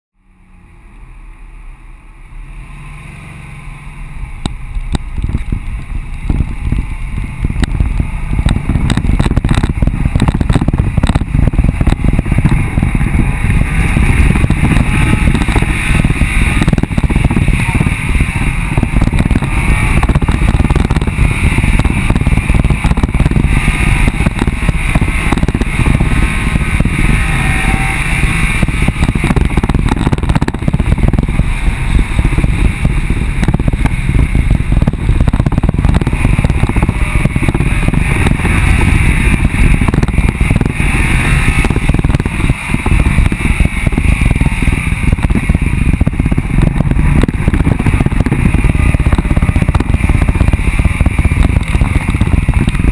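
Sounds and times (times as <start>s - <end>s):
off-road vehicle driving on dirt: 0.2s - 52.9s
wind buffeting: 4.3s - 52.9s.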